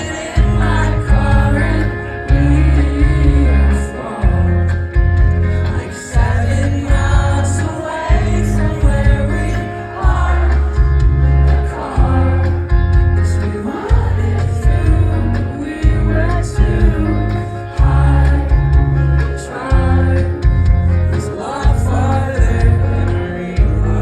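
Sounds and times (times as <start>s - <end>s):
person singing: 0.0s - 4.8s, 5.5s - 24.0s
live band music: 0.0s - 24.0s
pulsing bass: 0.0s - 24.0s.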